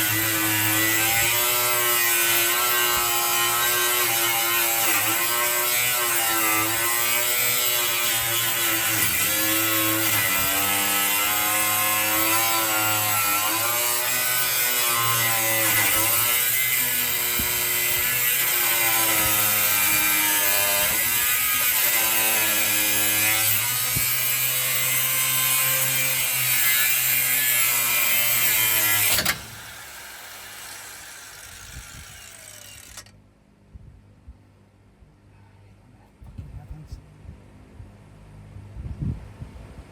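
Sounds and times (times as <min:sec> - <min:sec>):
power tool cutting metal: 0:00.0 - 0:33.2.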